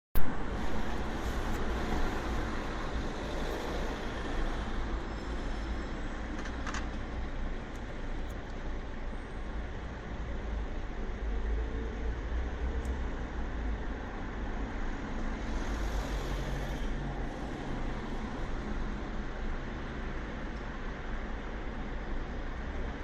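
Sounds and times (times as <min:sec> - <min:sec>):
car engines and tyre noise: 0:00.2 - 0:23.0.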